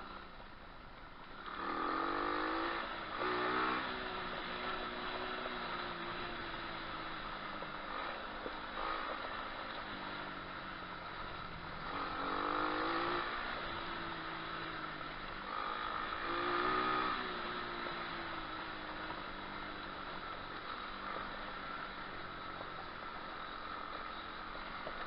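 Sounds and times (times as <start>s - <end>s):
small motorbike engine revving: 1.3s - 25.0s.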